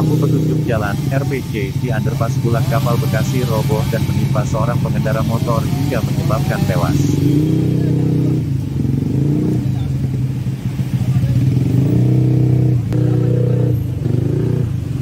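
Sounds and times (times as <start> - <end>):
motorcycle and car engines in traffic: 0.0 - 15.0.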